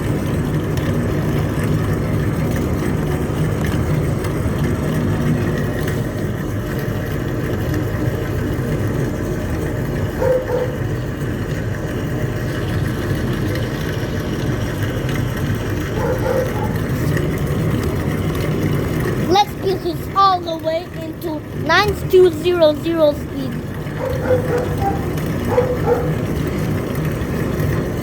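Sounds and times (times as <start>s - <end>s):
exhaust fan running: 0.0s - 28.0s.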